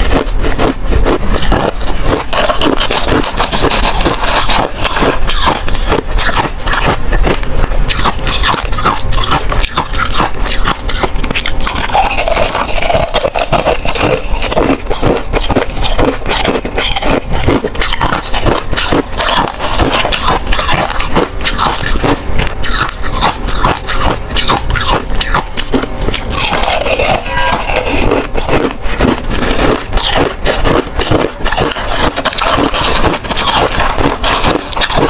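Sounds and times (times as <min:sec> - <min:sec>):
ice being crunched: 0:00.0 - 0:35.0.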